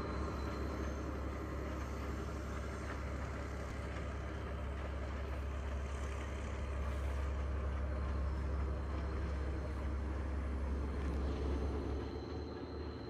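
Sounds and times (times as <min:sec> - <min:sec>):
diesel train engine humming: 0:00.0 - 0:13.0.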